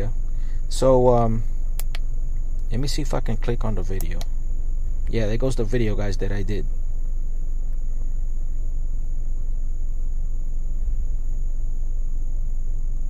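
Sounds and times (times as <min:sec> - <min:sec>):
high-pitched whine: 0:00.0 - 0:13.0
steady low rumble: 0:00.0 - 0:13.0.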